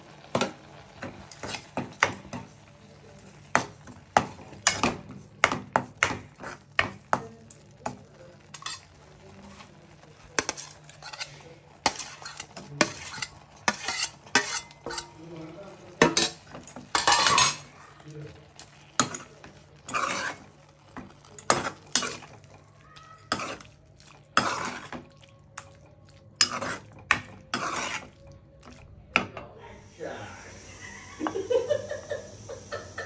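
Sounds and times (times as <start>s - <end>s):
sizzling: 0.0s - 33.0s
spoon scraping frying pan: 0.1s - 29.5s.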